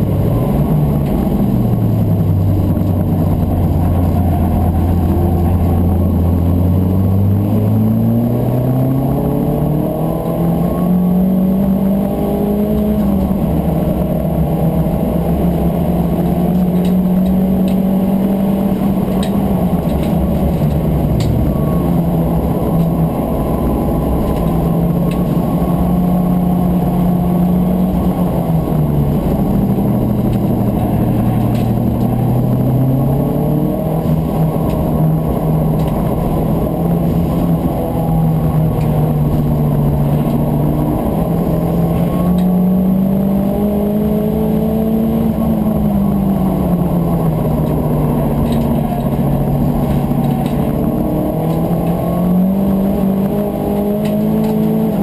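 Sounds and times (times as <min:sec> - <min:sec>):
muffled race car engine: 0:00.0 - 0:55.0.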